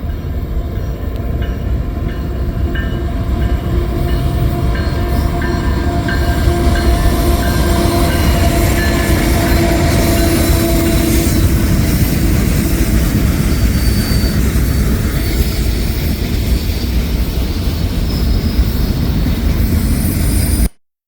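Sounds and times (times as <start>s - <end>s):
freight train rumbling past: 0.0s - 20.7s.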